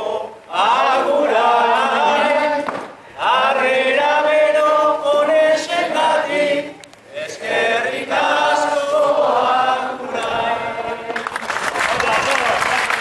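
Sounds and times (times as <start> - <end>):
person singing unaccompanied: 0.0 - 11.3.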